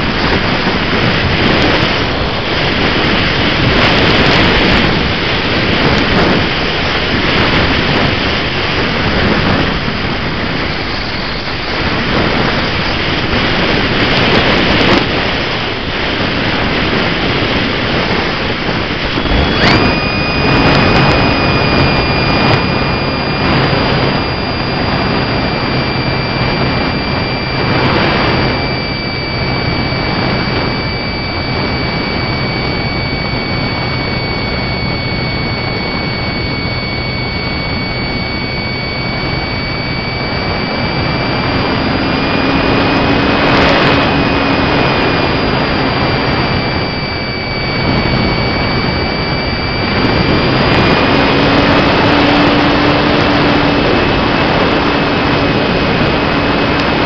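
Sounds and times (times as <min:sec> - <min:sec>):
low hum: 0:00.0 - 0:57.0
motor and propeller whine: 0:00.0 - 0:57.0
rushing airflow: 0:00.0 - 0:57.0.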